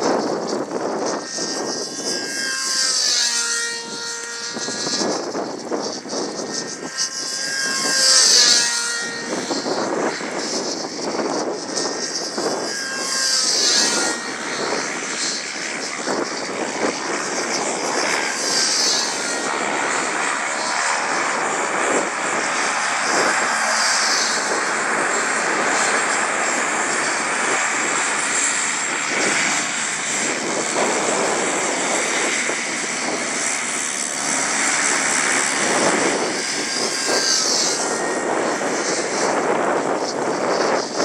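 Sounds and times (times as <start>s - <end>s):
model airplane engine running: 0.0s - 41.0s.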